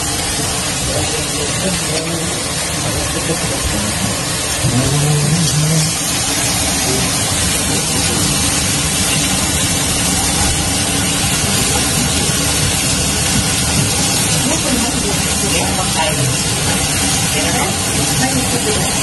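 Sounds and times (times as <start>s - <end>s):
steak sizzling in frying pan: 0.0s - 19.0s.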